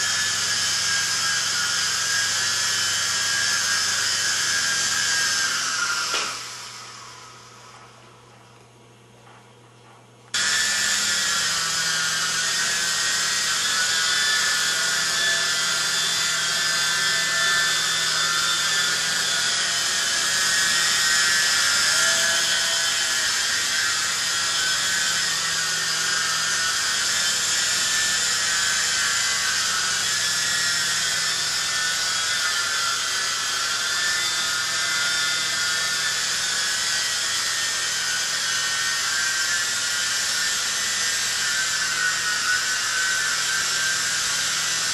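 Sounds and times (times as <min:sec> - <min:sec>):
rc helicopter high-pitched whine: 0:00.0 - 0:08.1, 0:10.3 - 0:44.9.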